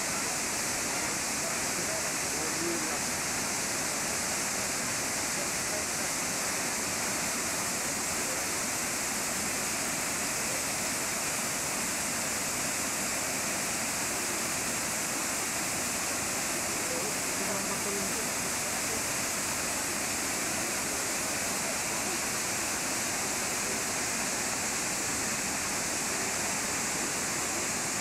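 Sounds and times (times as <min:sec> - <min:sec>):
waterfall rushing into pool: 0:00.0 - 0:28.0.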